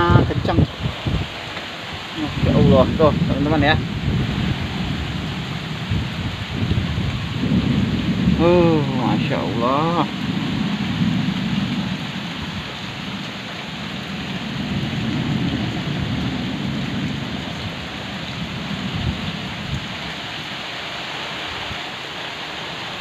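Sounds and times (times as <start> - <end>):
thunder rumbling: 0.0 - 20.6
heavy rain on tarpaulin roof: 0.0 - 23.0.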